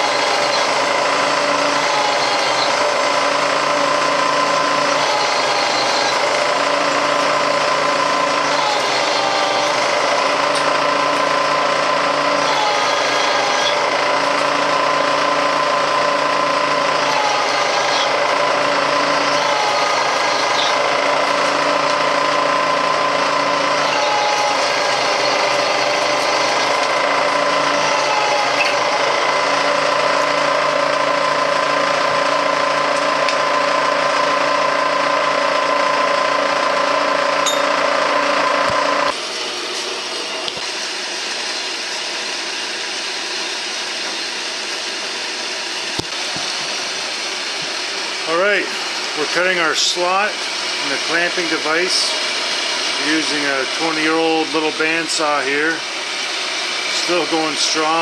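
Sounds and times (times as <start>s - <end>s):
machine tool cutting metal: 0.0s - 58.0s.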